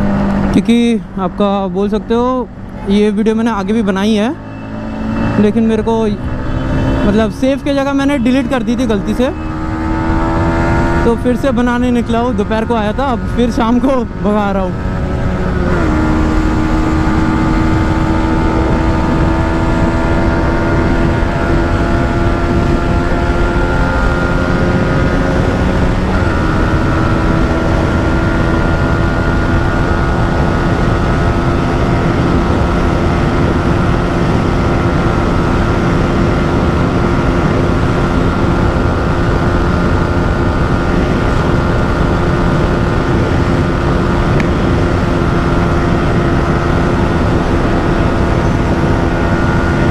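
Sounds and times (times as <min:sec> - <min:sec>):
motorcycle engine at high revs: 0:00.0 - 0:49.9
wind noise: 0:01.9 - 0:49.9.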